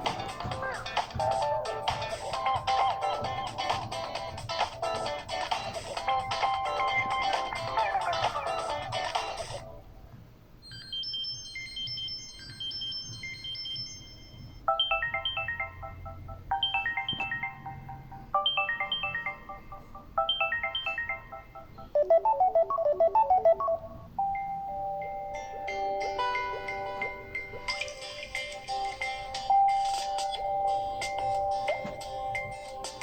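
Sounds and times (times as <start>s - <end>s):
phone ringtone melodies: 0.0s - 9.8s, 10.6s - 33.0s.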